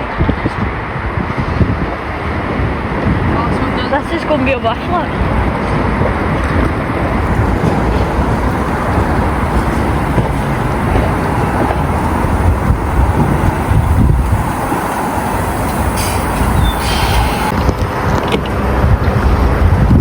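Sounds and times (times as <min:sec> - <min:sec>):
passing train rumble: 0:00.0 - 0:20.0.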